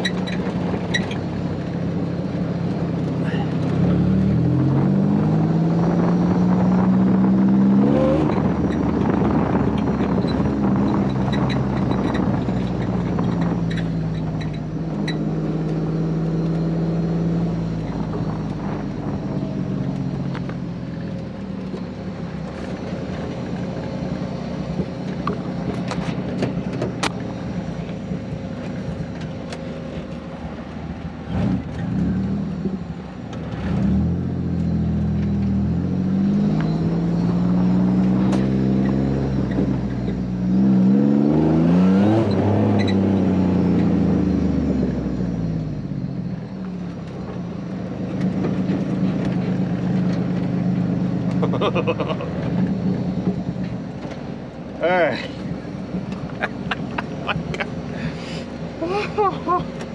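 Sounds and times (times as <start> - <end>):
race car engine revving: 1.9 - 21.3, 22.5 - 46.0, 46.9 - 59.9.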